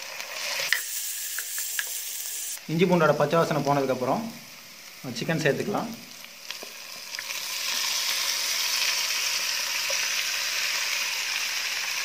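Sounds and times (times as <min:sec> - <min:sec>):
sizzling in hot oil: 0:00.0 - 0:12.0.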